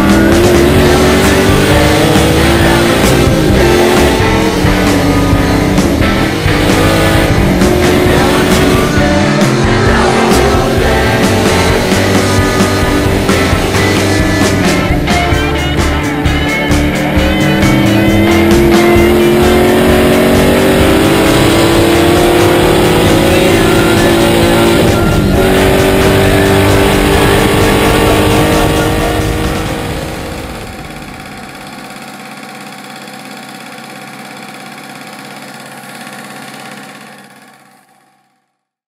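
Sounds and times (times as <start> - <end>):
background music: 0.0 - 31.7
car engine accelerating hard: 0.0 - 37.7.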